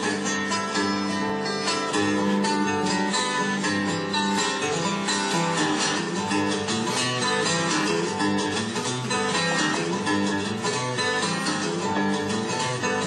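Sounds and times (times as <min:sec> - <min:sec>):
fingerpicked blues guitar: 0:00.0 - 0:13.0.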